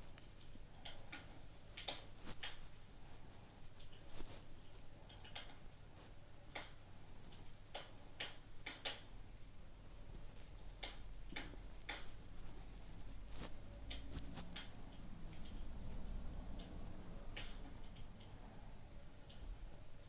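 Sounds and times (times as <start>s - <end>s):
low steady hum: 0.0s - 20.0s
wood fire crackling: 0.0s - 20.0s.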